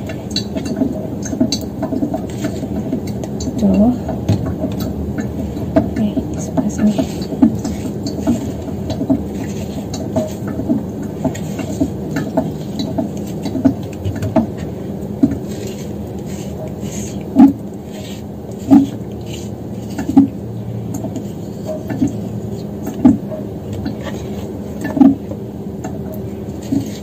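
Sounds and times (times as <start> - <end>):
metal spoon scraping melon: 0.0 - 4.0, 6.0 - 23.0, 26.4 - 27.0.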